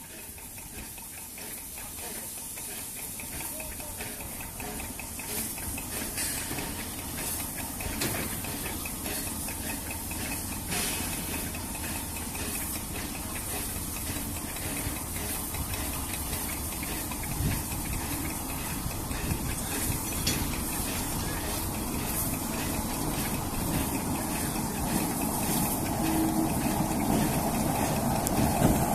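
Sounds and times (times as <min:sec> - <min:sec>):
distant diesel locomotive rumble: 0:00.0 - 0:28.9
steady hiss: 0:00.0 - 0:28.9.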